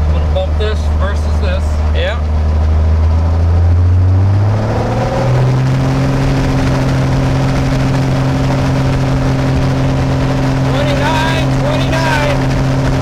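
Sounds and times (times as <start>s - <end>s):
propeller plane engine at full power: 0.0s - 13.0s.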